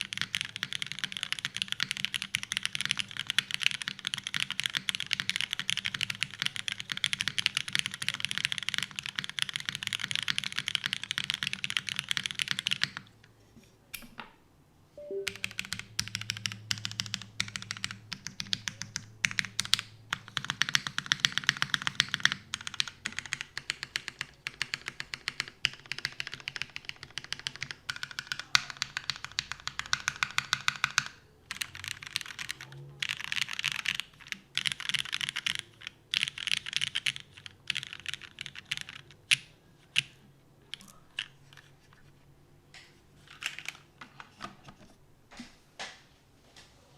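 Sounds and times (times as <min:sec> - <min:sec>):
mechanical keyboard typing: 0:00.0 - 0:13.1, 0:15.0 - 0:41.7, 0:43.3 - 0:43.9.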